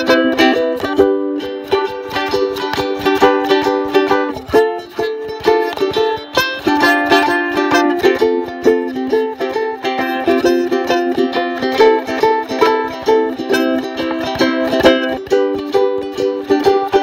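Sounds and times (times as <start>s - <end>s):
ukulele strumming: 0.0s - 17.0s.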